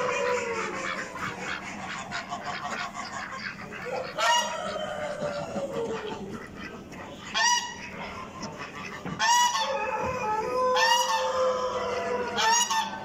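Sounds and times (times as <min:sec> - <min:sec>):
din of poultry: 0:00.0 - 0:13.0
waterfowl honking: 0:00.0 - 0:13.0.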